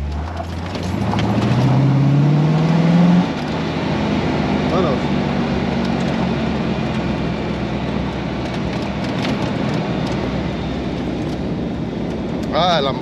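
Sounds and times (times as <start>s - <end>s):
engine running steadily: 0.0s - 13.0s
tyres on gravel road: 0.0s - 13.0s.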